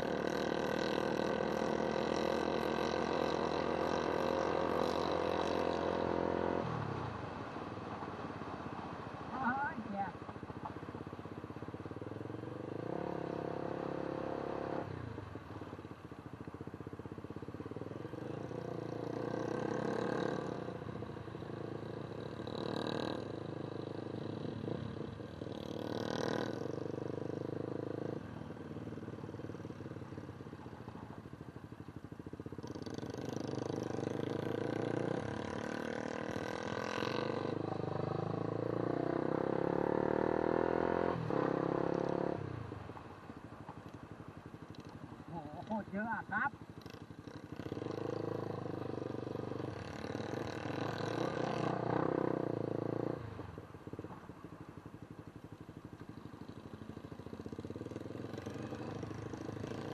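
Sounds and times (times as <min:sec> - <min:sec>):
motorcycle engine running: 0:00.0 - 0:06.6, 0:09.3 - 0:59.9.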